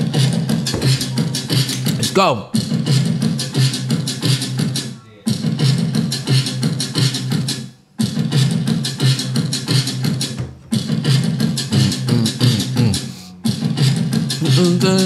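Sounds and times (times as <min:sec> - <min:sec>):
drum loop over speakers: 0:00.0 - 0:15.0.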